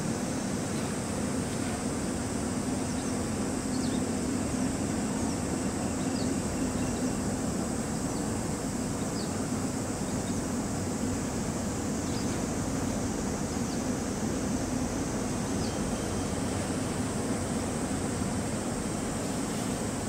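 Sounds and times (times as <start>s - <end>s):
ship engines droning: 0.0s - 20.0s.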